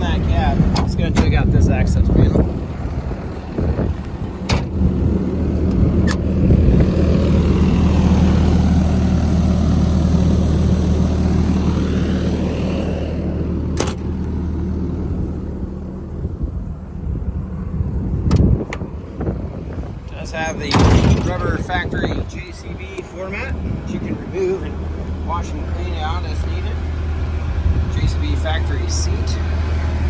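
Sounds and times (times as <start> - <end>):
excavator diesel engine idling: 0.0 - 17.6, 21.3 - 30.0.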